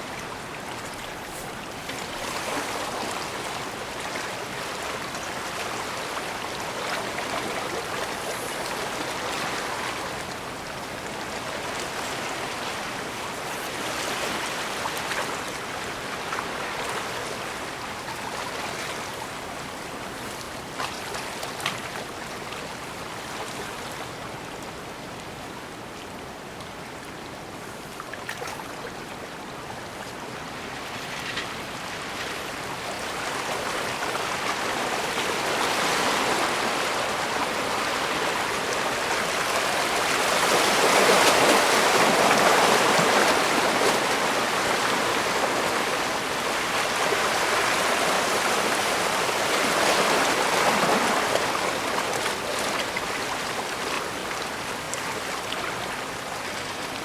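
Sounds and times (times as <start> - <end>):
water lapping at shore: 0.0 - 57.0.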